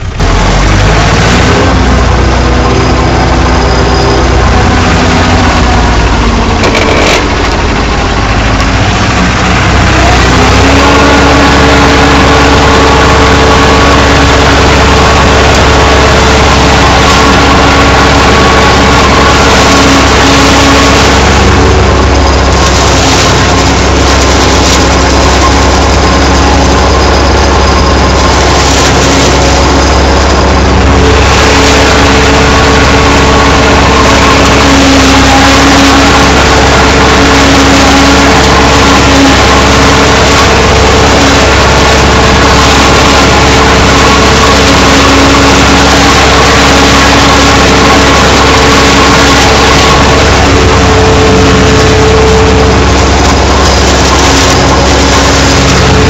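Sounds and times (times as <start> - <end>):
tractor engine: 0.0 - 56.0.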